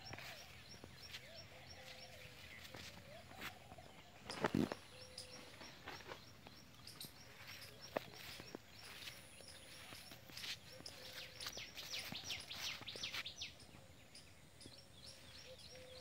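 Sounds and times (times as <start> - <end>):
bird chirping: 0.0 - 16.0
birds whistling calls: 0.0 - 16.0.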